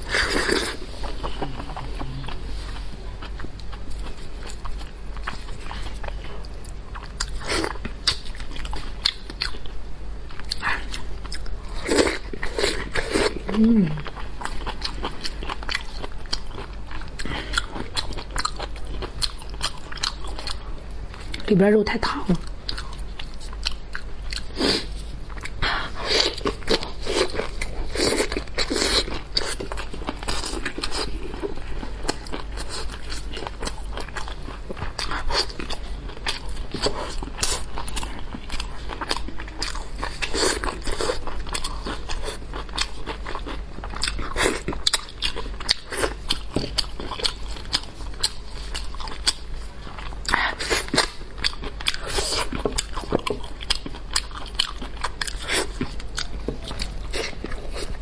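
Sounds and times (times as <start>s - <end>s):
wet chewing and crunching: 0.0s - 21.5s, 22.3s - 58.0s
steady low hum: 0.0s - 58.0s.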